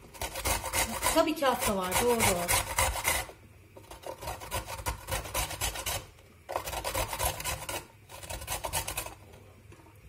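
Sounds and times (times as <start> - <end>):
carrot grated on grater: 0.0 - 9.4.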